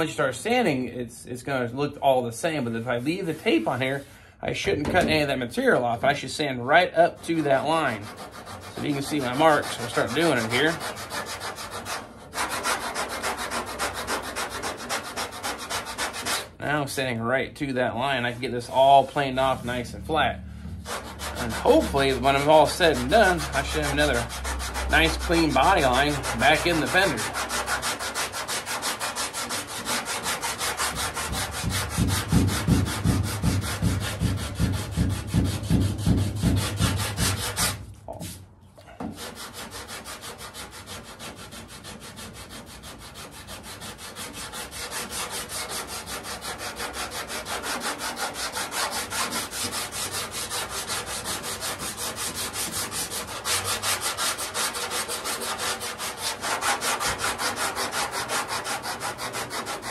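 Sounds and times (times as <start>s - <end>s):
sandpaper rubbing back and forth: 2.7s - 4.2s, 6.8s - 16.6s, 20.8s - 38.4s, 39.2s - 59.9s.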